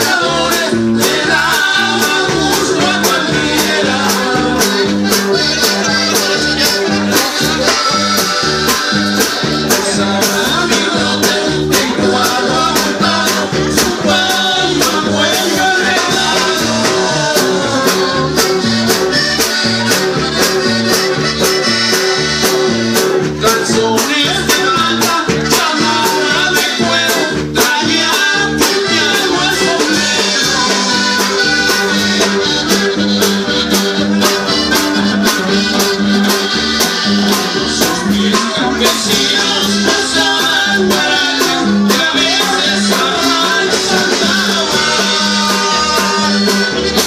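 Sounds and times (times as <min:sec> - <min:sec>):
accordion: 0:00.0 - 0:47.0
electric bass: 0:00.0 - 0:47.0
guitar: 0:00.0 - 0:47.0
steady drum beat: 0:00.0 - 0:47.0.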